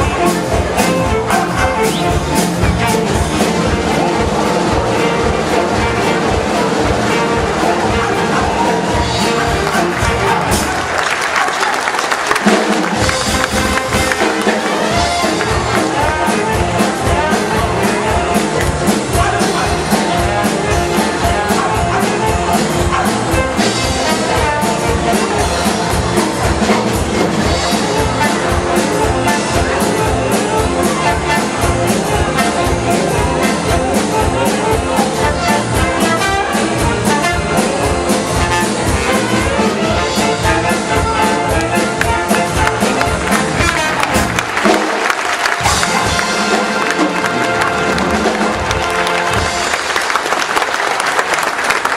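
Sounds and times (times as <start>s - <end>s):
upbeat brass music: 0.0s - 51.9s.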